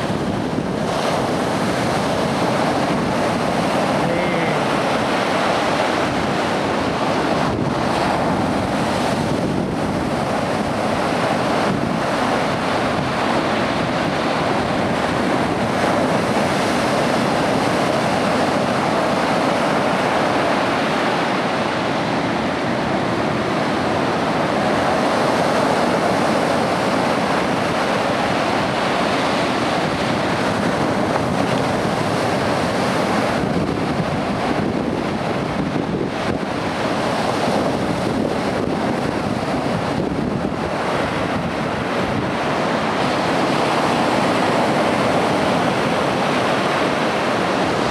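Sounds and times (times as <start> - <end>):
waves breaking on rocks: 0.0 - 47.9
wind buffeting microphone: 0.0 - 47.9.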